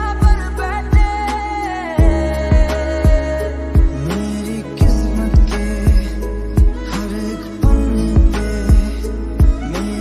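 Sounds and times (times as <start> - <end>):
slow song with kick drum: 0.0 - 10.0.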